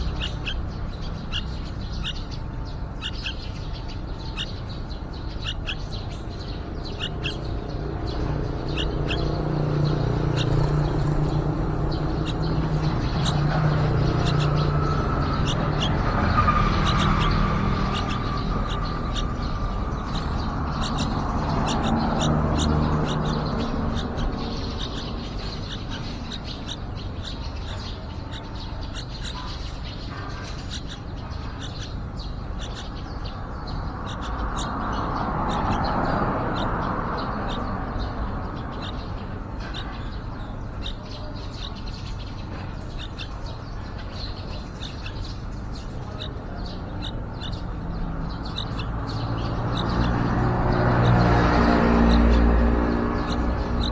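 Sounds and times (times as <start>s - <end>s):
nestlings chirping: 0.0s - 53.9s.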